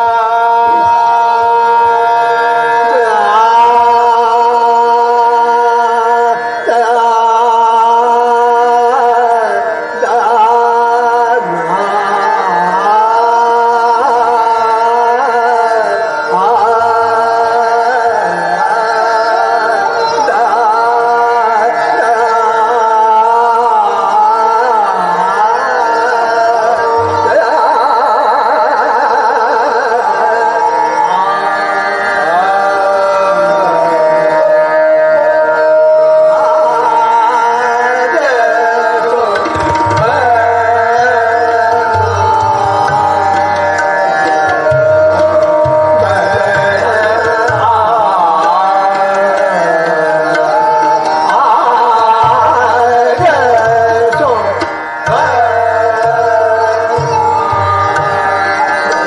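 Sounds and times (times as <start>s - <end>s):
man singing ornamented phrases: 0.0s - 59.0s.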